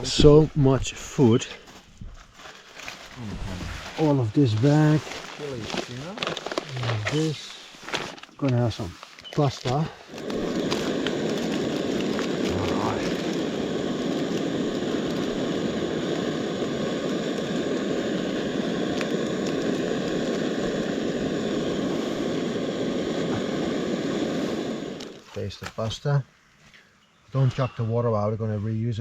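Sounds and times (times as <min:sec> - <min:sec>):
gas stove burner hissing: 0:00.0 - 0:01.5, 0:03.1 - 0:25.9.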